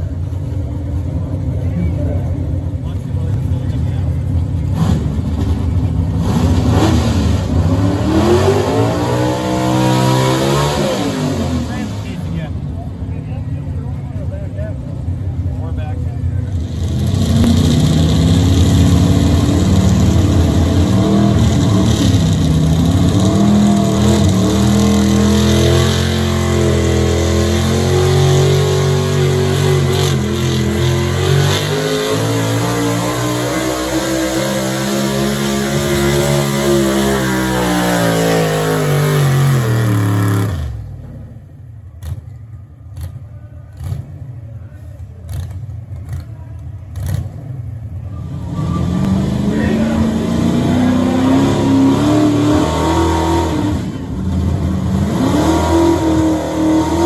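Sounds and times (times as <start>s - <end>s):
truck engine at full throttle: 0.0s - 57.0s.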